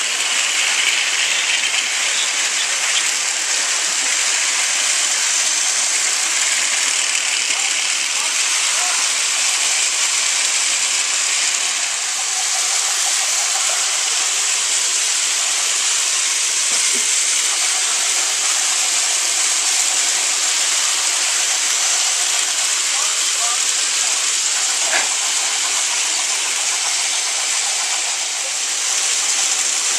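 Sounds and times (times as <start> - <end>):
toy trains whirring: 0.0 - 29.9.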